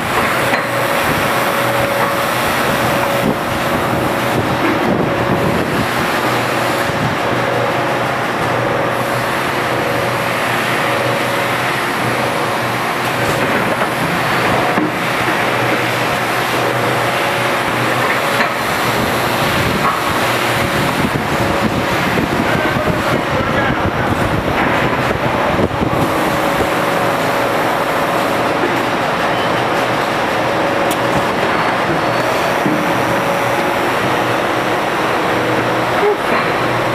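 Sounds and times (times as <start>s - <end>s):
industrial machinery drone: 0.0s - 36.9s.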